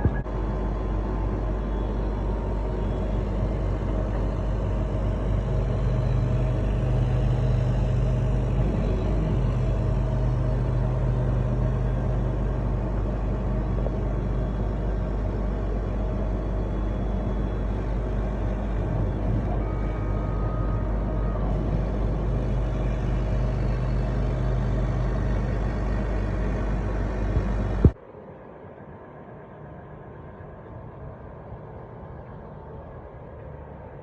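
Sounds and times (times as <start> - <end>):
thin high whine: 0.0 - 30.2
laser engraver mechanical hum: 0.0 - 34.0.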